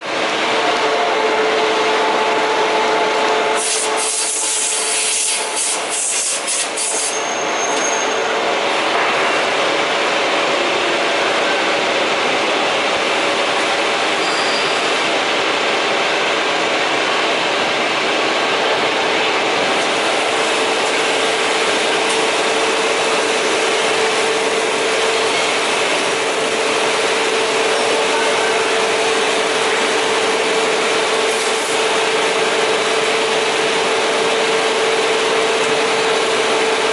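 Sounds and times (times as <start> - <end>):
constant machine hum: 0.0 - 36.9.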